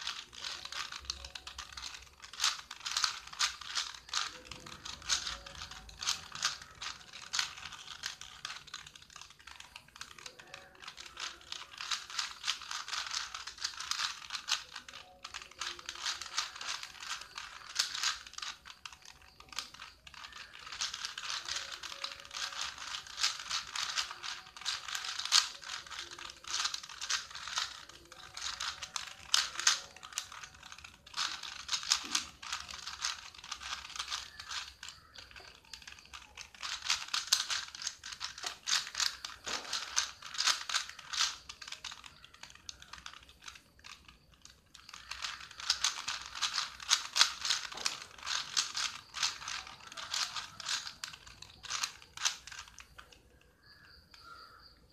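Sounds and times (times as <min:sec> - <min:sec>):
puzzle cube clicking: 0:00.0 - 0:54.9.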